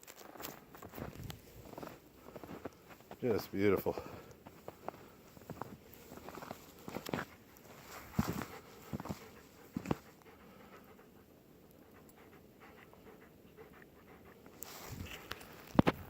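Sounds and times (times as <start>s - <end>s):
dog panting: 1.3s - 15.7s.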